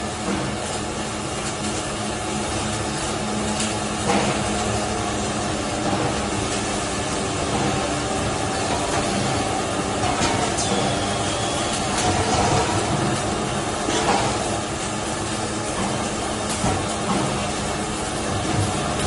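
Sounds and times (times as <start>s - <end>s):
welding machine hum: 0.0s - 19.0s.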